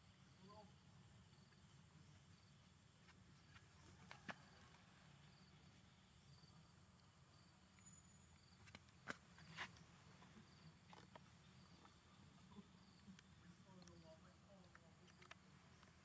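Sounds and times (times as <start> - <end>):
faint high insect chirp: 0.0 - 16.0.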